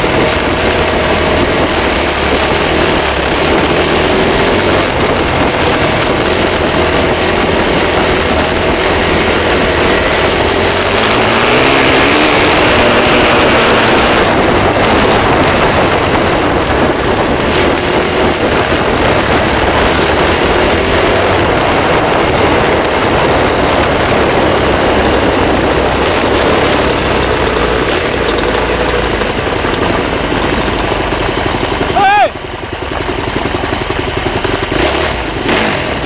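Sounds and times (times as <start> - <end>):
loud steady rushing noise: 0.0 - 36.0
motorbike engine running: 0.0 - 36.0.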